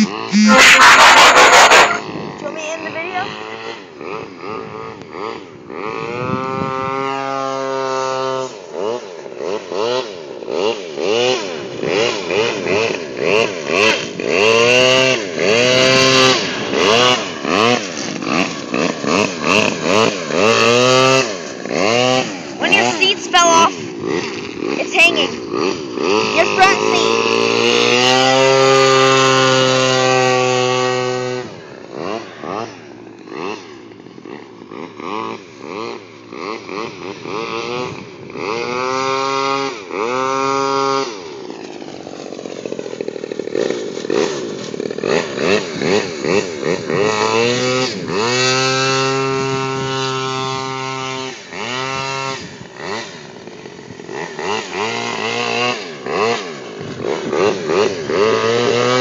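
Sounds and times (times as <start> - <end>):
model airboat engine revving: 0.0 - 59.0.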